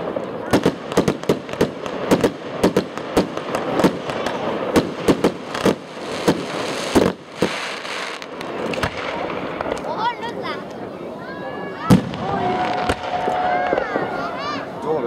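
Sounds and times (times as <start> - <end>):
fireworks bangs and pops: 0.0 - 10.1, 11.8 - 14.5
hissing crackle of fireworks: 0.0 - 14.8.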